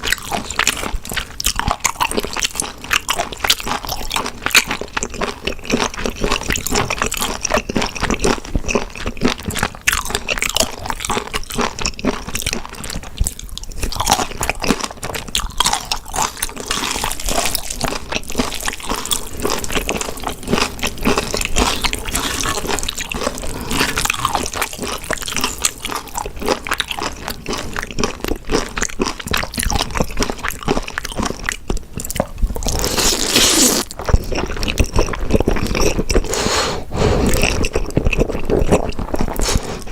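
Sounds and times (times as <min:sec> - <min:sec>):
wet chewing and crunching: 0:00.0 - 0:39.9.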